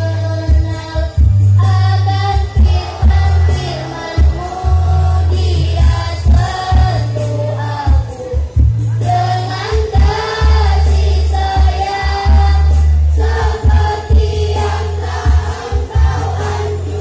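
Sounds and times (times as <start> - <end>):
accompaniment with deep bass and beat: 0.0 - 17.0
mixed choir singing a hymn: 1.8 - 17.0.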